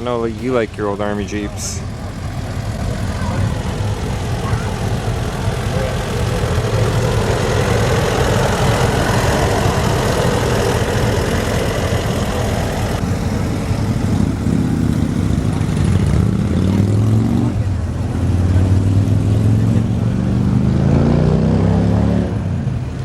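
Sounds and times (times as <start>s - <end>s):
vehicle engine idling: 0.0s - 20.9s, 22.3s - 23.0s.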